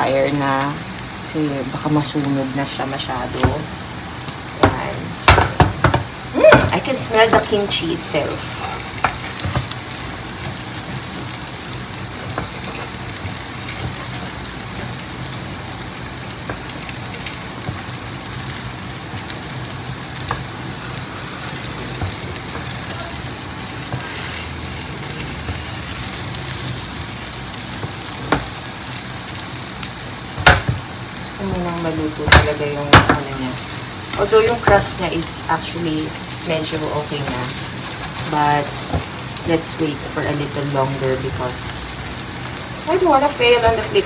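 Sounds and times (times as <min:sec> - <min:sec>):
pancake sizzling in hot oil: 0:00.0 - 0:44.0.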